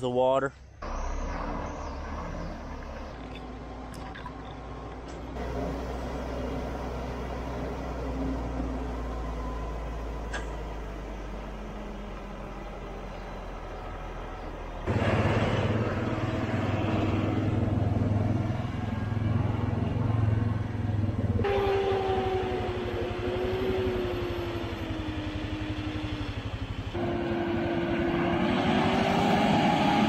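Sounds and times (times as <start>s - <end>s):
tractor engine whine: 0.8s - 30.0s
truck engine running: 0.8s - 30.0s.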